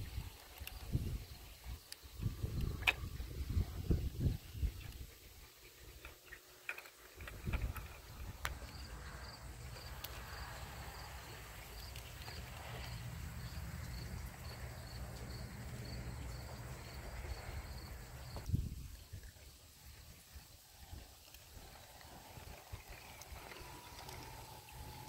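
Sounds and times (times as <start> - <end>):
model train motor and wheel hum: 0.0 - 25.0.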